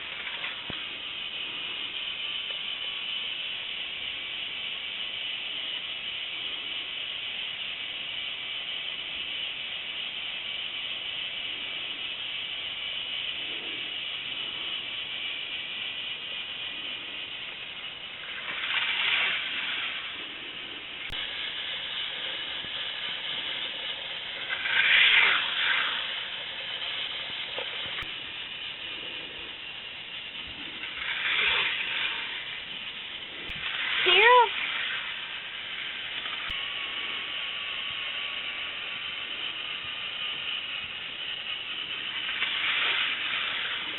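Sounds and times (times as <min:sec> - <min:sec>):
cars rattling along plastic track: 0:00.0 - 0:43.9
toy roller coaster motor whirring: 0:00.0 - 0:43.9.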